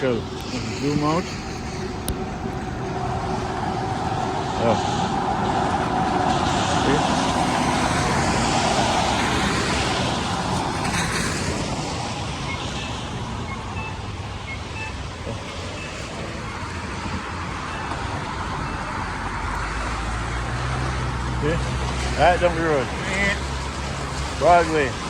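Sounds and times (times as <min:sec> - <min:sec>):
road noise: 0:00.0 - 0:25.0
vehicle passing loudly: 0:00.0 - 0:25.0.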